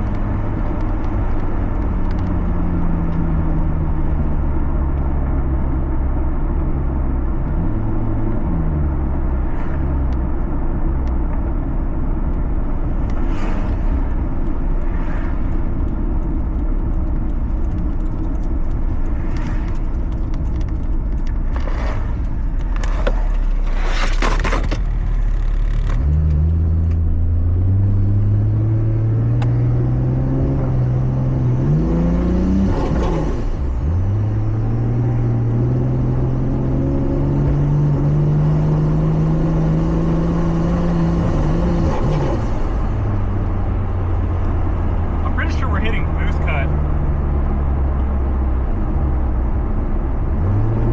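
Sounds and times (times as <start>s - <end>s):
car engine accelerating: 0.0s - 50.9s
road rumble: 0.0s - 50.9s.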